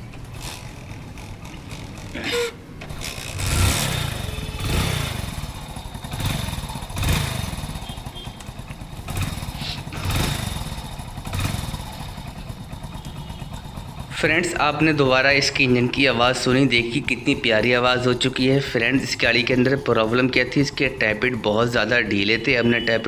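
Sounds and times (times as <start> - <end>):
motorcycle engine throttle blips: 0.0 - 23.0.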